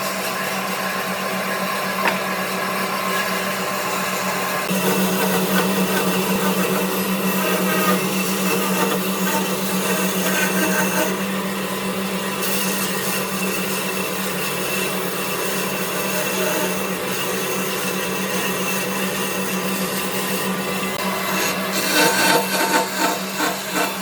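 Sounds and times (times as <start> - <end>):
electric power tool whirring: 0.0 - 24.0.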